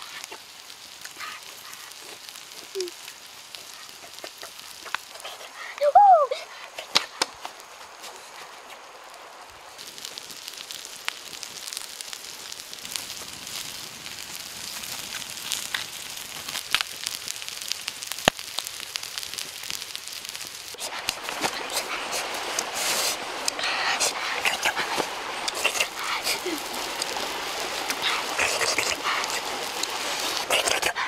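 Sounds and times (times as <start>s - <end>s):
food sizzling and crackling: 0.0s - 31.0s.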